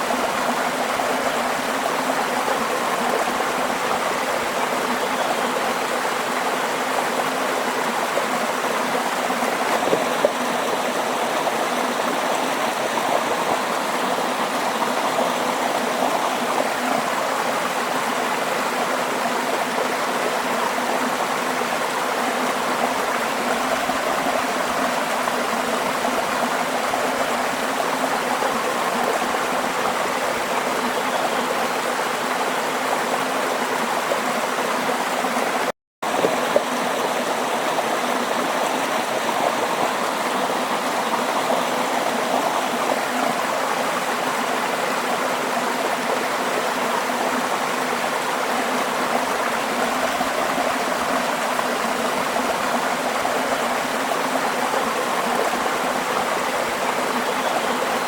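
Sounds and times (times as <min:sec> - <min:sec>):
stream of water flowing: 0:00.0 - 0:58.0.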